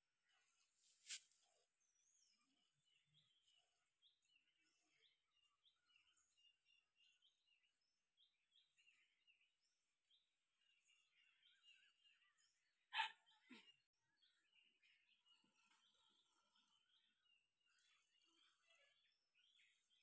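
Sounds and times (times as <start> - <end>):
faint small bird chirps: 0.6 - 20.0.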